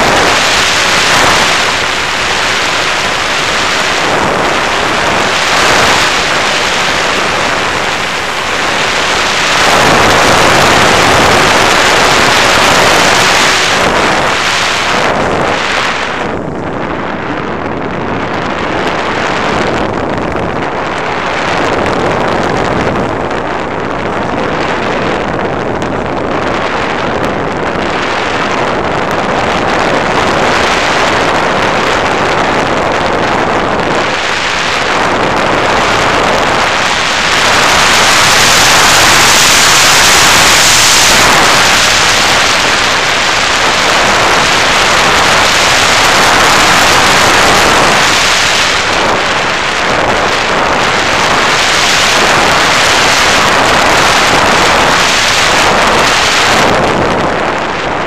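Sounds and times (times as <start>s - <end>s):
airflow rushing: 0.0s - 58.0s
electric motor and propeller: 0.0s - 58.0s.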